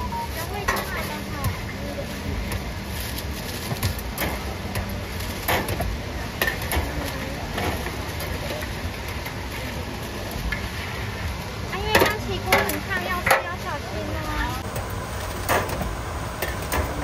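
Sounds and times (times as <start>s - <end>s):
market background hum: 0.0s - 17.0s.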